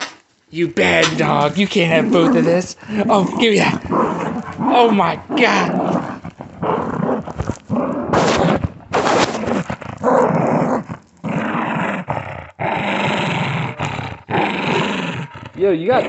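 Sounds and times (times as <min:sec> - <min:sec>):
dog growling: 0:01.0 - 0:16.0.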